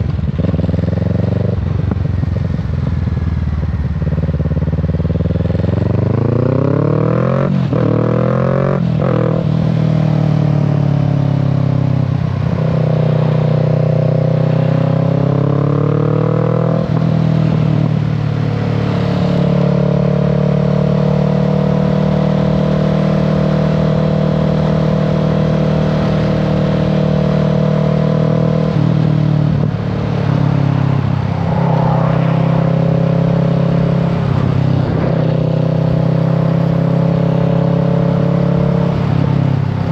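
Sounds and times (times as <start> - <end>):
motorcycle engine shifting through gears: 0.0 - 39.9.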